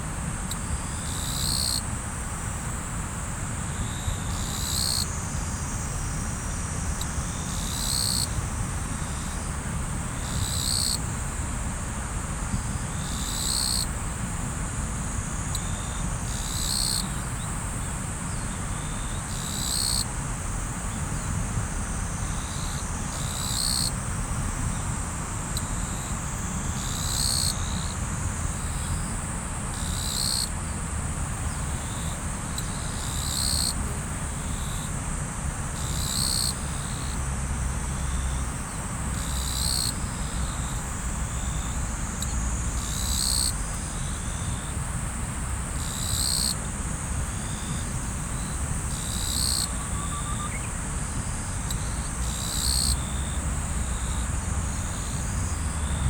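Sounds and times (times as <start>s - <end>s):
high insect trill: 0.5s - 56.0s.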